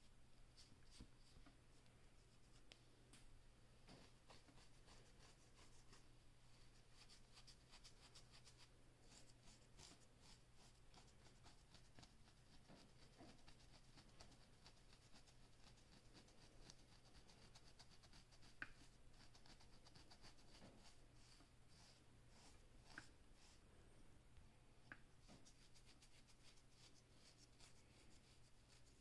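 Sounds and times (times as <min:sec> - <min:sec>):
comb scratching scalp: 0:03.8 - 0:23.6, 0:25.2 - 0:29.0.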